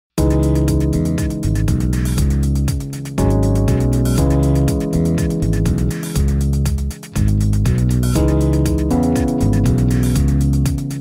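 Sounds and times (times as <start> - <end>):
background music with steady beat: 0.2 - 11.0.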